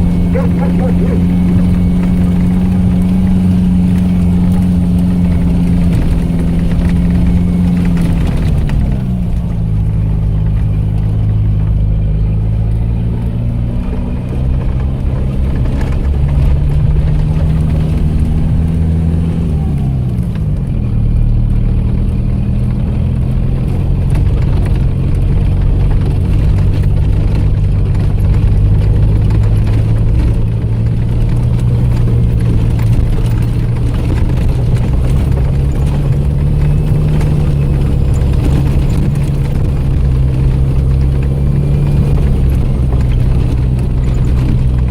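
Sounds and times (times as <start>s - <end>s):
off-road vehicle engine running: 0.0s - 44.9s.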